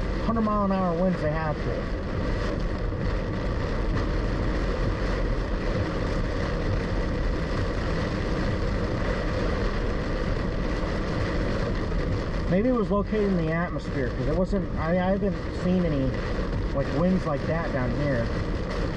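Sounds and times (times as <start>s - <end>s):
constant road hiss: 0.0s - 18.9s
engine and tyre rumble: 0.0s - 18.9s.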